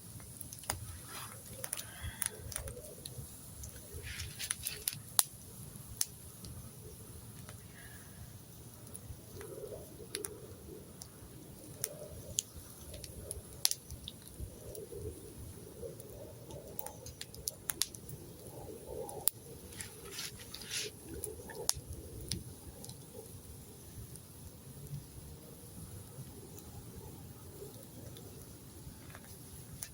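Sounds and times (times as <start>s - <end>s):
campfire crackling and popping: 0.0s - 29.9s.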